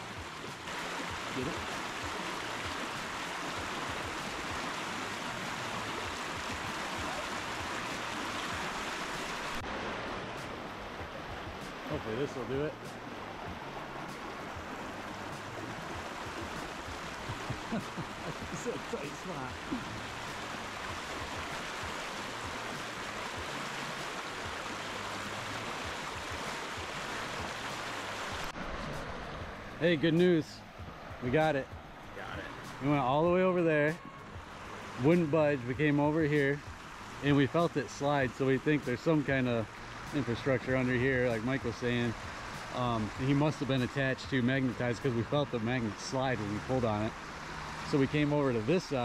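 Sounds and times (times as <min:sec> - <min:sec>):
whitewater rushing over rocks: 0:00.0 - 0:30.4, 0:31.1 - 0:49.0.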